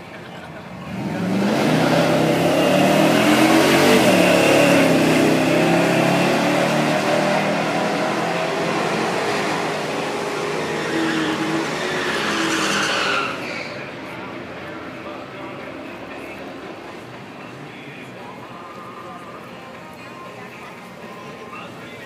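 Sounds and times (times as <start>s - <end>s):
car engines accelerating hard: 0.0s - 19.8s.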